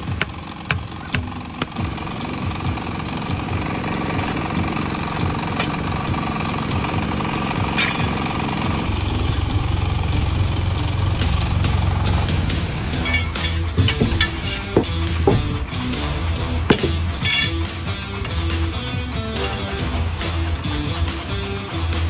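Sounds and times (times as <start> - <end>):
air tool hammering: 0.0 - 10.1, 10.9 - 22.0
low engine drone: 0.0 - 22.0.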